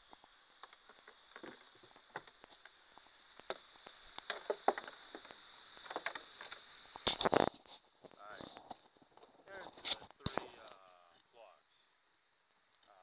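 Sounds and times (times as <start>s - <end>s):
small clicks and knocks: 0.1s - 10.8s.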